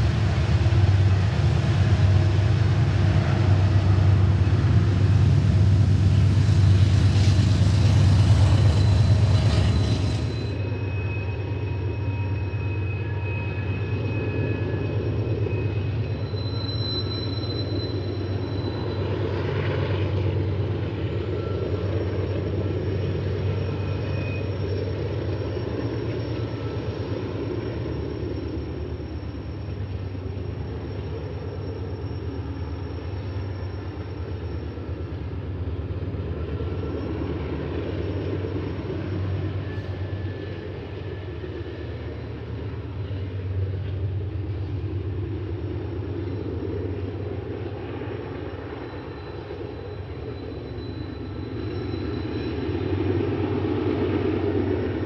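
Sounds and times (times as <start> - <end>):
train rumbling with deep drone: 0.0 - 55.0
high wheel squeals: 0.4 - 45.3, 46.0 - 55.0.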